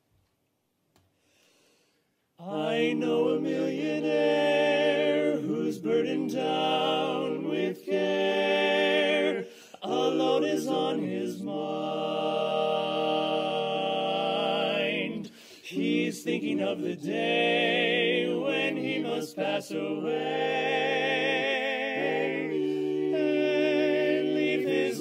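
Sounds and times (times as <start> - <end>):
male quartet singing a cappella: 2.4 - 25.0.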